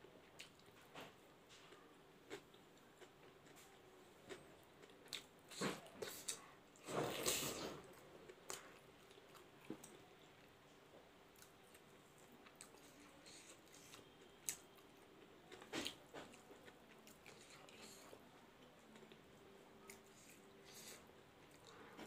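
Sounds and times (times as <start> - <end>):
person chewing food: 0.2 - 10.5, 11.3 - 18.2, 19.8 - 22.0.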